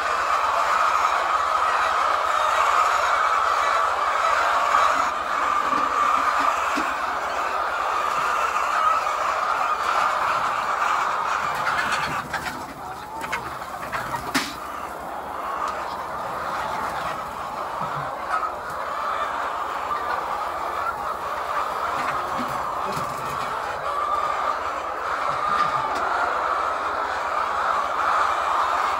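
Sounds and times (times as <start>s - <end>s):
hens clucking: 0.0s - 28.9s.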